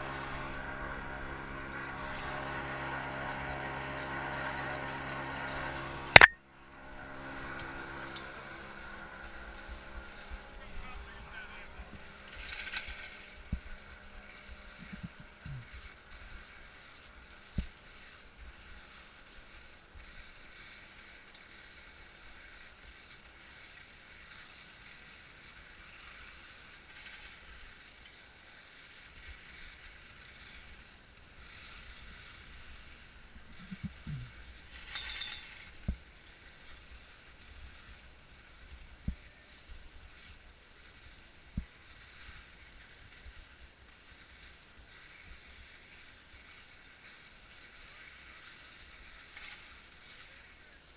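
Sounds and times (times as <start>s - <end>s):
skis swishing on snow: 0.0s - 50.9s
scraping rush of skis: 6.8s - 50.9s.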